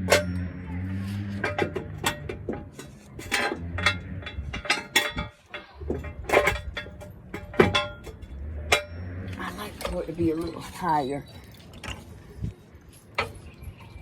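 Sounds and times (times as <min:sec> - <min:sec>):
metallic clicks and clanks of jacks: 0:00.0 - 0:14.0.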